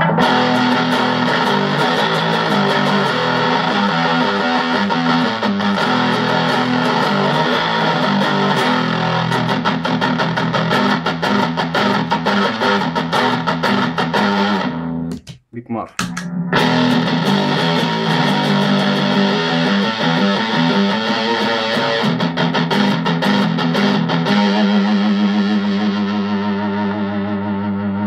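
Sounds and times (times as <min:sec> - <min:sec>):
fuzz electric guitar: 0:00.0 - 0:15.2, 0:16.0 - 0:28.0.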